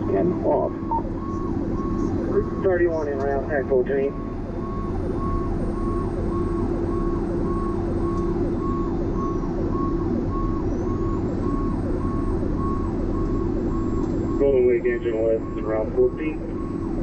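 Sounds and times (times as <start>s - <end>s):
fire engine siren cycling: 0.0s - 17.0s
road noise: 0.0s - 17.0s
truck engine drone: 0.0s - 17.0s.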